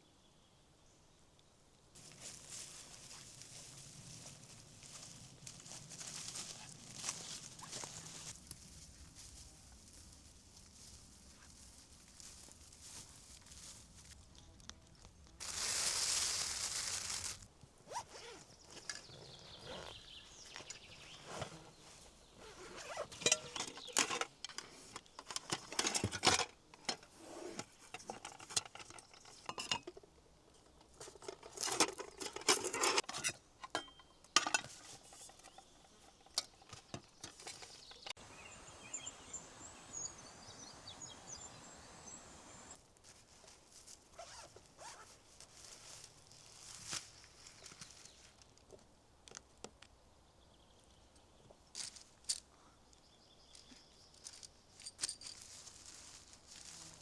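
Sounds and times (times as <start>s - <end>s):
camp gear clinking and rustling: 2.0s - 38.2s, 42.7s - 49.9s, 51.2s - 57.0s.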